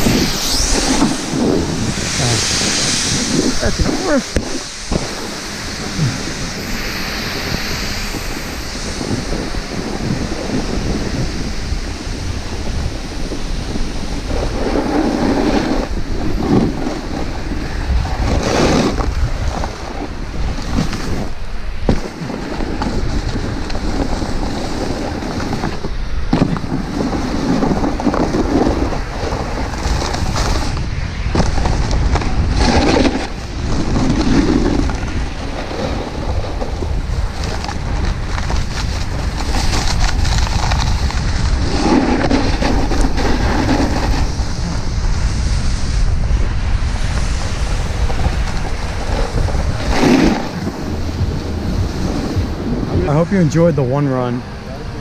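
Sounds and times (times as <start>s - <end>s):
snowboard edges scraping snow: 0.0s - 54.4s
wind rushing over microphone: 0.0s - 55.0s.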